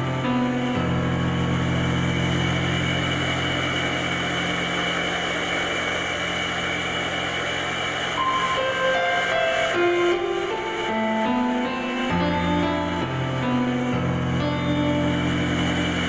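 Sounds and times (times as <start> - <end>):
low electronic drone: 0.0 - 16.0
noise wash: 0.0 - 16.0
piano notes: 0.0 - 16.0.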